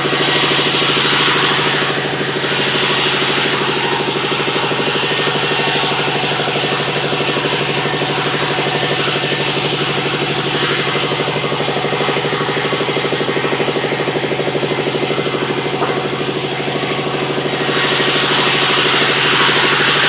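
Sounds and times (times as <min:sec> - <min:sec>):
hiss: 0:00.0 - 0:13.9, 0:17.5 - 0:20.0
sawmill engine pulsing: 0:00.0 - 0:20.0.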